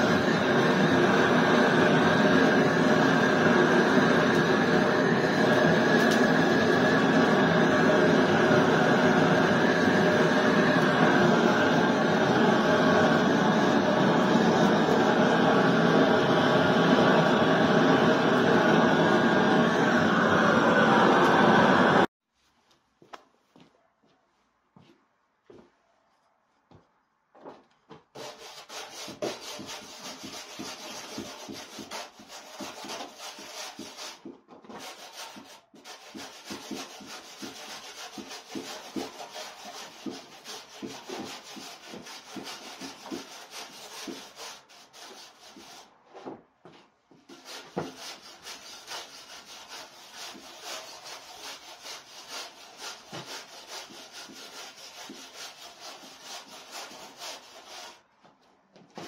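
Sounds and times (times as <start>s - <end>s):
tool scrubbing charred wood: 0.0s - 20.1s, 28.2s - 45.9s, 47.3s - 58.0s.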